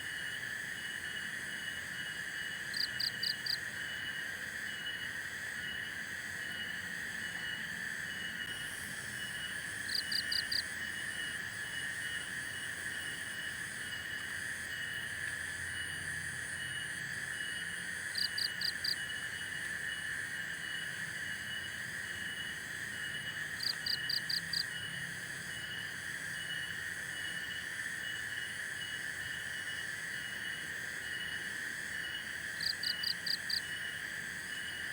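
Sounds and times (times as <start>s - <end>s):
crickets pulsing trill: 0.0s - 34.9s.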